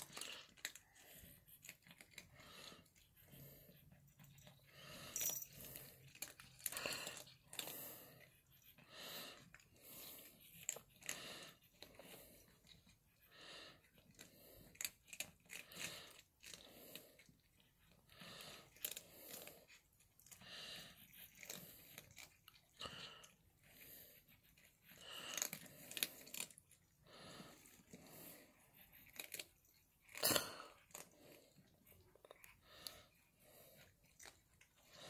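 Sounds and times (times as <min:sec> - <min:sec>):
cats crunching food: 0:00.0 - 0:35.0.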